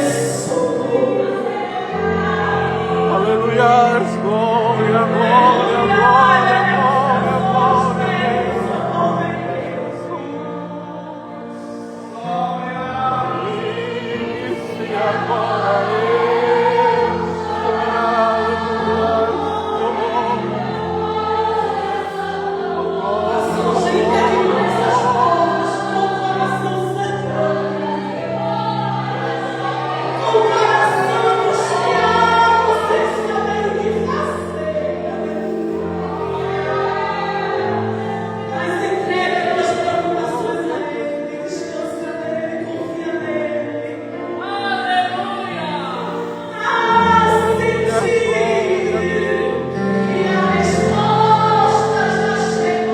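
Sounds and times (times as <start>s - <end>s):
gospel choir singing: 0.0s - 52.9s.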